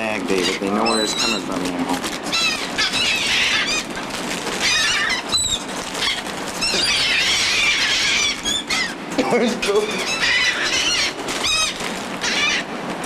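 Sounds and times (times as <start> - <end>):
seagulls squealing cries: 0.0 - 1.6, 2.2 - 12.8.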